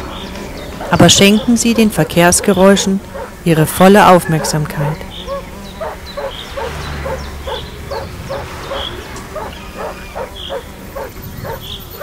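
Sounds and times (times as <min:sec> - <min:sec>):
animal calling rhythmically: 0:00.0 - 0:12.0
bird chirps: 0:00.0 - 0:12.0
low traffic rumble: 0:00.0 - 0:12.0.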